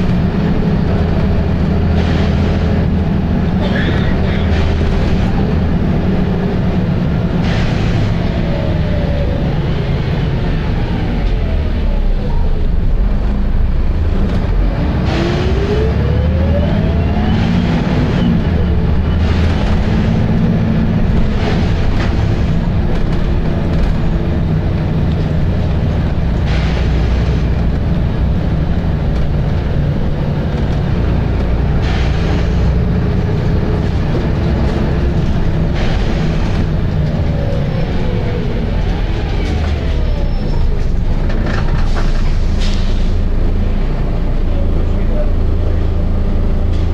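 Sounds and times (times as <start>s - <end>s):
bus diesel engine running hard: 0.0s - 46.9s.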